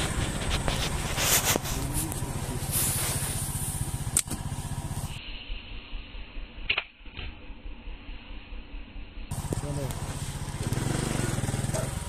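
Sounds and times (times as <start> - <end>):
motor engine throbbing: 0.0 - 12.0.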